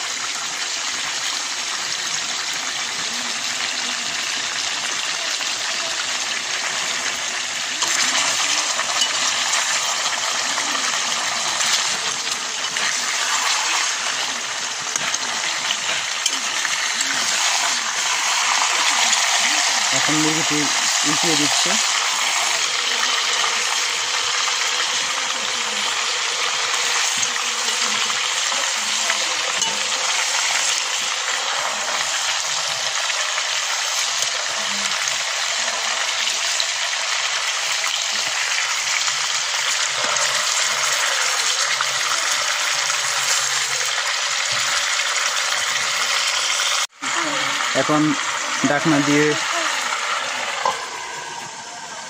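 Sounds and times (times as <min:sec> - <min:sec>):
chicken sizzling in oil: 0:00.0 - 0:52.0.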